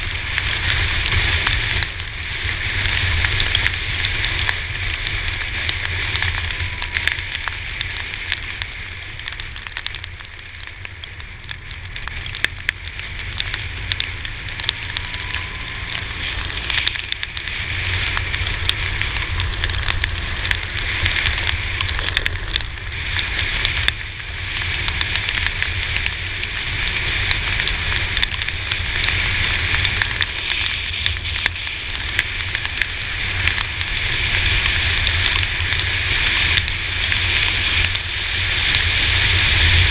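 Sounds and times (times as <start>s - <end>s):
low wind rumble: 0.0s - 39.9s
raindrops ticking on camera: 0.0s - 39.9s.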